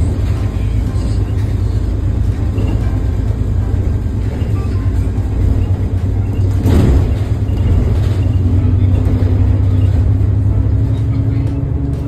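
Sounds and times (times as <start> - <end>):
bus engine and road rumble: 0.0 - 12.0
rattling noise: 0.0 - 12.0.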